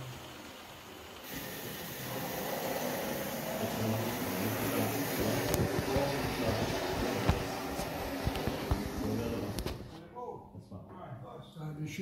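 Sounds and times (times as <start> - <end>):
model train running on track: 0.0 - 9.7.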